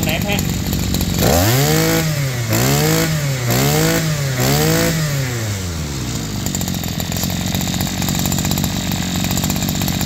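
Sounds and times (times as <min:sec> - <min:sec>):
brush cutter engine revving: 0:00.0 - 0:10.0.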